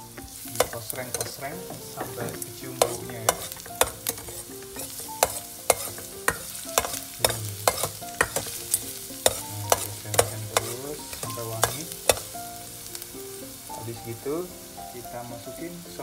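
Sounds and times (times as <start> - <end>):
oil sizzling: 0.0 - 16.0
metal spatula scraping pot: 0.1 - 13.0.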